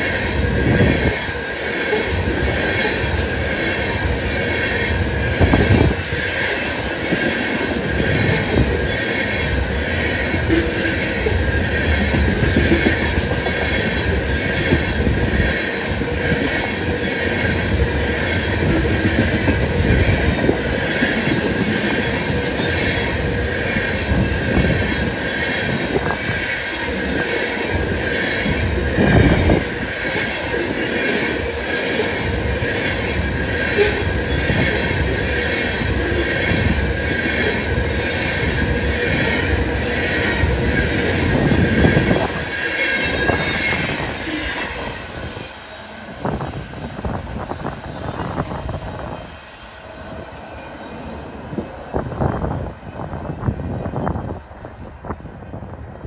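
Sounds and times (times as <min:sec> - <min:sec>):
clickety-clack of rail joints: 0:00.0 - 0:49.3
train wheels squealing on rail: 0:00.0 - 0:55.8.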